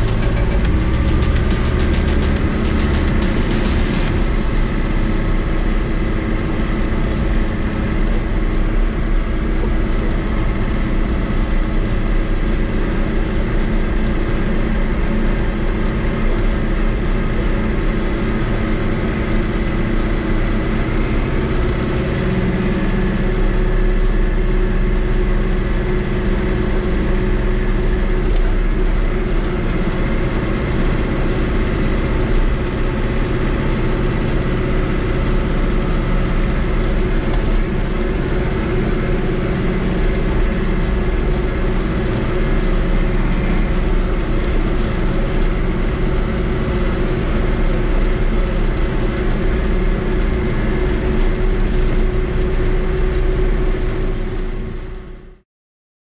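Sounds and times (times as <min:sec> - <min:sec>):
tractor diesel engine running: 0:00.0 - 0:55.3.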